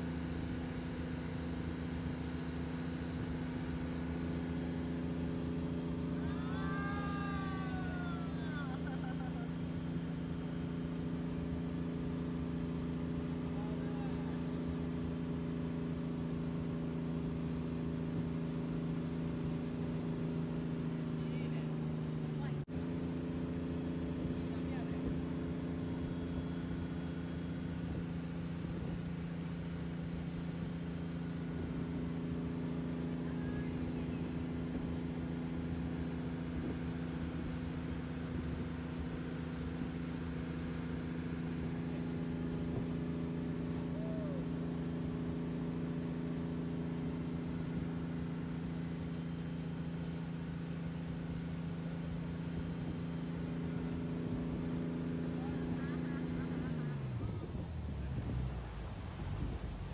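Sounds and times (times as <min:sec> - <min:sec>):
boat engine droning: 0:00.0 - 0:59.9.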